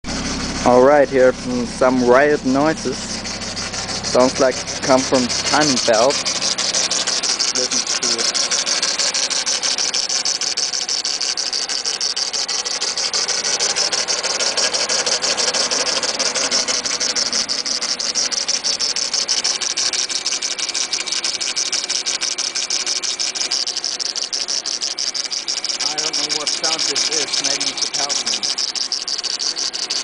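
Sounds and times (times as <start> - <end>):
car engine idling: 0.0 - 30.0
rapid ticking rattle: 0.1 - 30.0.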